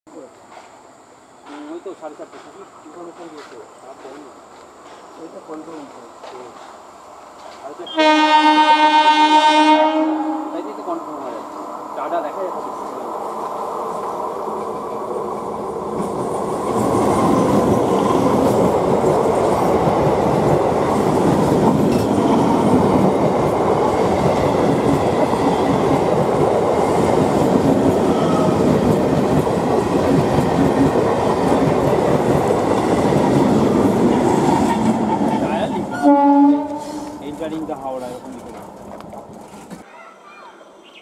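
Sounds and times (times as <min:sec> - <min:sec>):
electric train passing at speed: 0:06.7 - 0:39.6.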